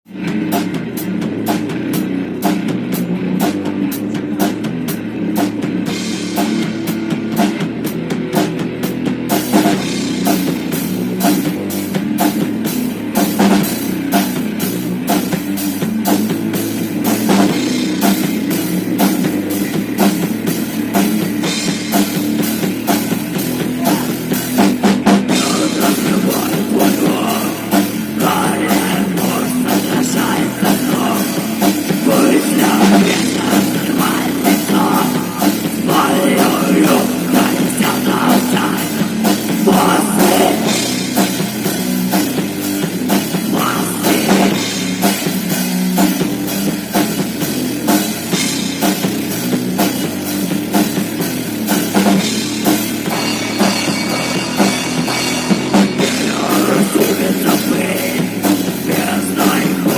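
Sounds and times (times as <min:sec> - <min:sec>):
distorted electric guitars: 0:00.0 - 0:59.9
drum kit beat: 0:00.0 - 0:59.9.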